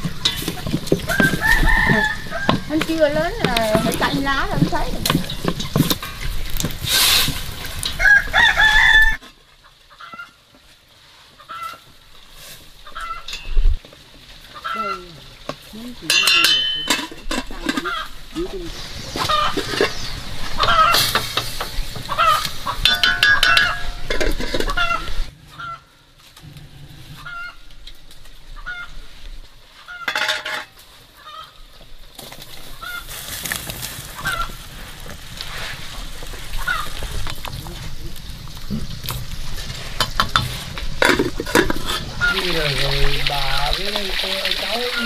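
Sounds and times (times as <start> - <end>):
chickens clucking: 0.0 - 6.6, 7.5 - 10.6, 11.3 - 12.0, 12.6 - 13.8, 14.4 - 27.8, 28.5 - 29.2, 29.8 - 31.7, 32.6 - 45.0.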